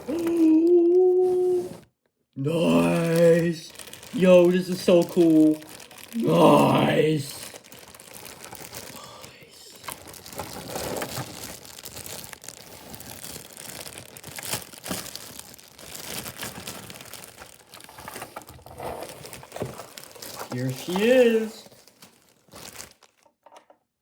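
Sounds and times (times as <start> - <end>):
packaging crinkling and rustling: 2.5 - 23.8.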